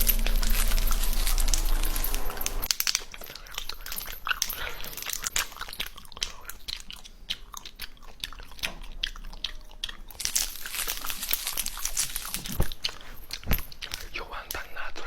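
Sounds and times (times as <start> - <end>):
crunchy clicking and crackling: 0.0 - 14.8.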